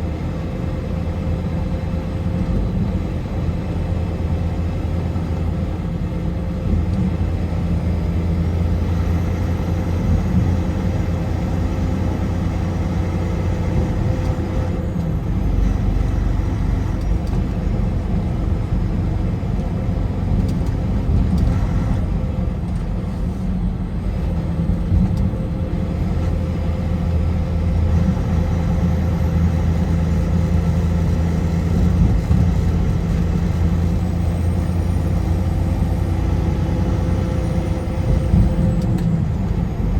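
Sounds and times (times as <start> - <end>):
car engine and tyre road noise: 0.0 - 39.9.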